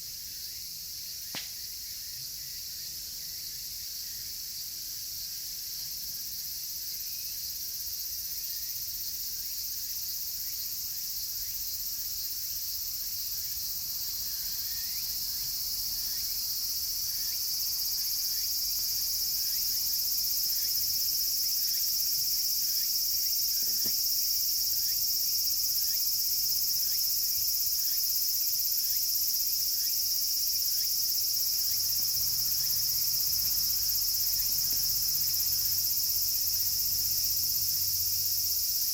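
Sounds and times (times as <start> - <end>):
cicadas shrilling: 0.2 - 38.9
evening cicada falling notes: 0.3 - 38.9.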